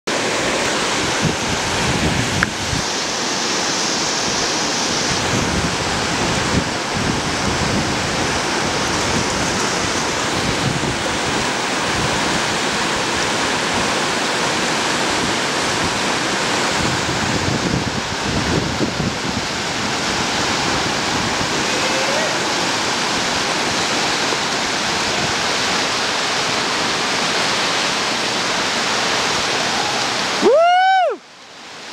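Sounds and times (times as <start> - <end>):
whitewater roaring: 0.1 - 31.9
wind buffeting microphone: 0.8 - 27.0.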